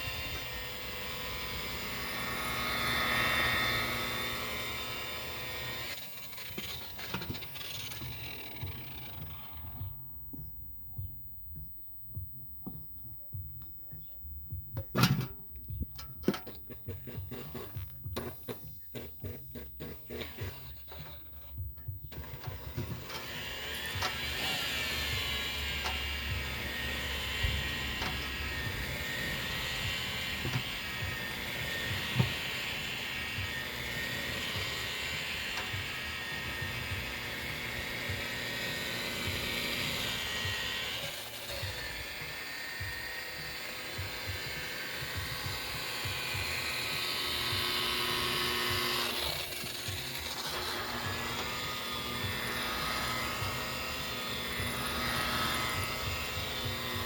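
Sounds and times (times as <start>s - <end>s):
power tool whining: 0.0s - 57.0s.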